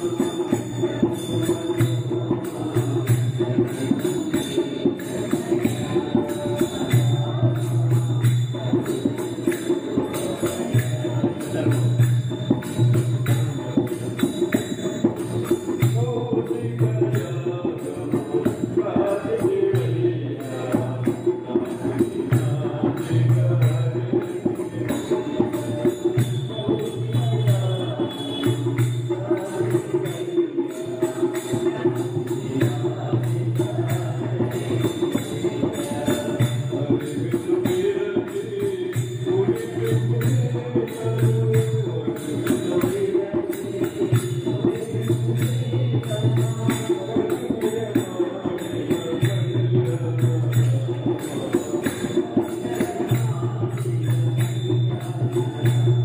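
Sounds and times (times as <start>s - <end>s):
background music with fast percussion: 0.0s - 56.0s.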